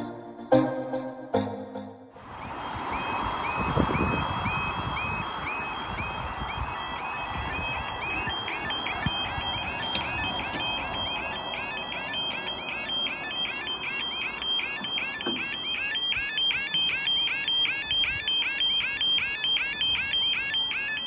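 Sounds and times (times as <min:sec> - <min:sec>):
level crossing alarm bleeps: 0:00.1 - 0:21.0.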